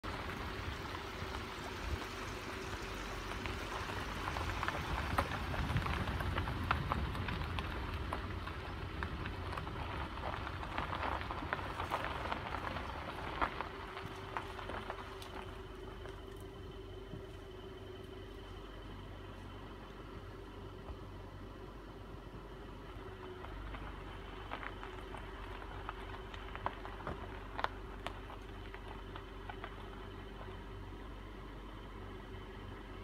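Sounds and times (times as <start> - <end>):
gravel crackling under tyres: 0.0 - 33.0
vehicle rumble and hum: 0.0 - 33.0.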